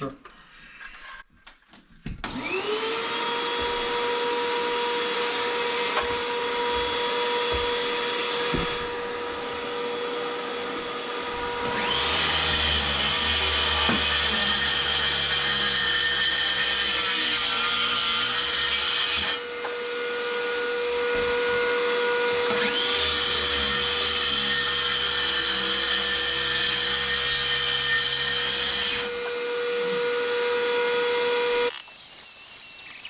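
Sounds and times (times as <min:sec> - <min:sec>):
power tool cutting into wall: 0:02.2 - 0:33.0
vacuum cleaner whining: 0:02.2 - 0:33.0.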